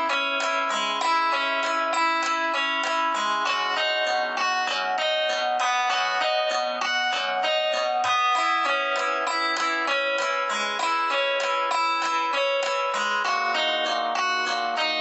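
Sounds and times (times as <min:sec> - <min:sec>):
guitar picking repeated notes: 0:00.0 - 0:15.0.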